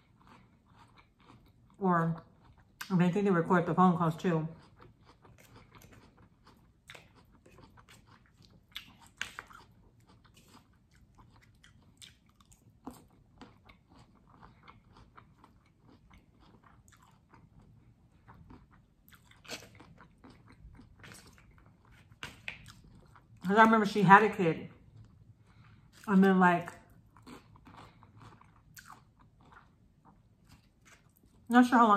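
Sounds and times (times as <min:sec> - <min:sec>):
person chewing crunchy food: 0:00.0 - 0:02.9, 0:04.3 - 0:23.4, 0:24.7 - 0:31.5.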